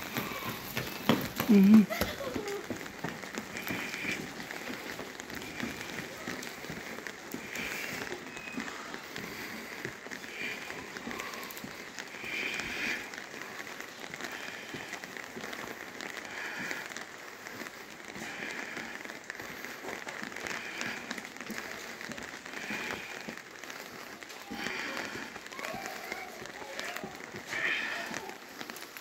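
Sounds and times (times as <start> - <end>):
light rain pattering: 0.0 - 29.0.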